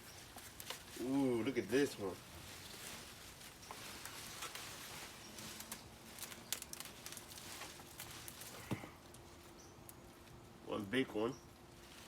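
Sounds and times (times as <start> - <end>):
soil being dug and rustled: 0.0 - 12.0.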